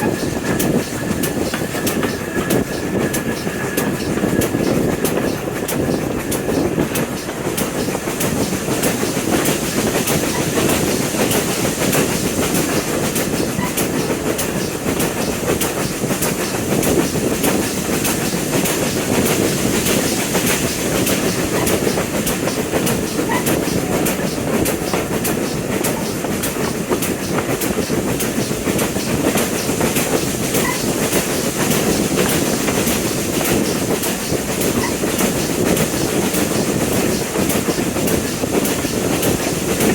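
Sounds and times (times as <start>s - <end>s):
train rumbling on rails: 0.0s - 39.9s
wheels clickety-clack: 0.0s - 39.9s.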